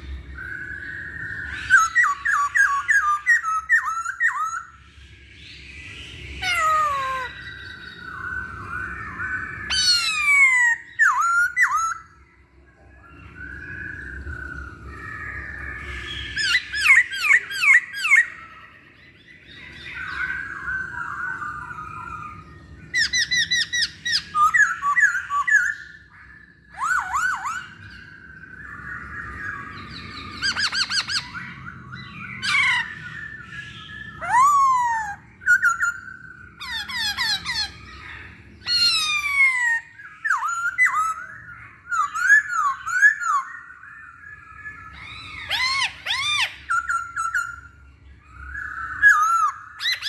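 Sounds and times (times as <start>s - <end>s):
bird singing loud phrases: 0.0s - 50.0s.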